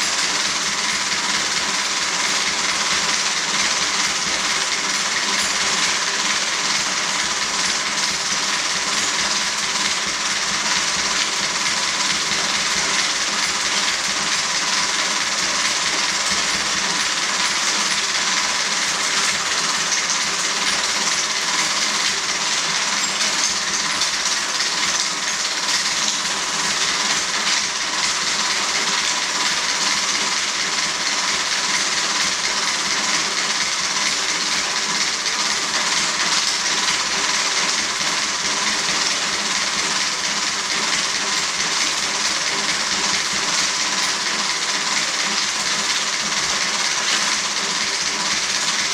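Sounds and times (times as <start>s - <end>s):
film projector running: 0.0s - 48.9s.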